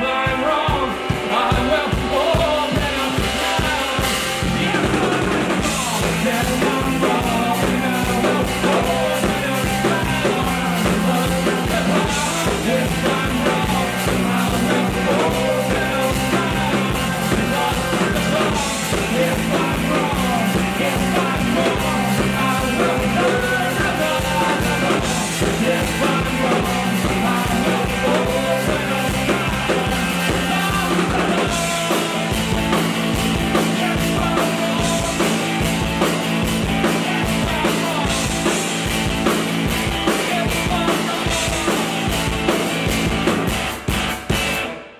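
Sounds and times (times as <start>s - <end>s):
person singing: 0.0s - 43.3s
drum kit beat: 0.0s - 44.9s
electric bass: 0.0s - 44.9s
electric guitar: 0.0s - 44.9s.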